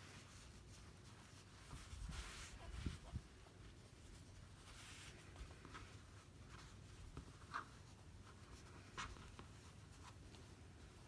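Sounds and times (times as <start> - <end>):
fabric rustling on cutting mat: 0.0 - 11.0.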